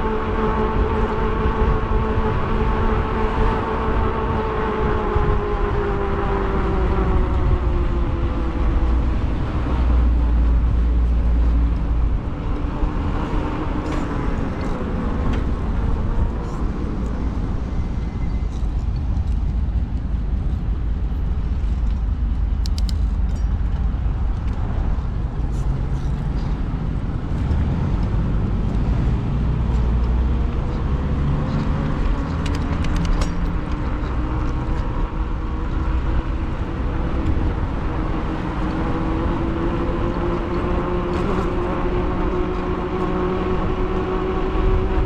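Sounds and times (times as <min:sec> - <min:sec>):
road traffic: 0:00.0 - 0:45.0
wind rumble on microphone: 0:00.0 - 0:45.0.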